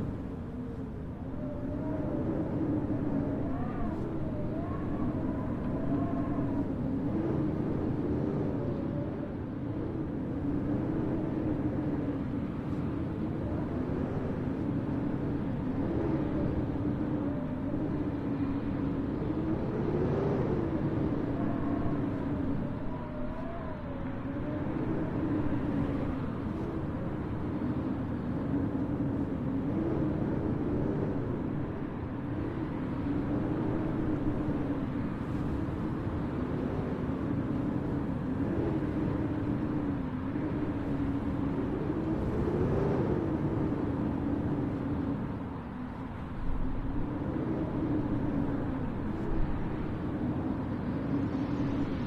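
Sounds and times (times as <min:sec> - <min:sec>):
howling blizzard wind: 0:00.0 - 0:52.0.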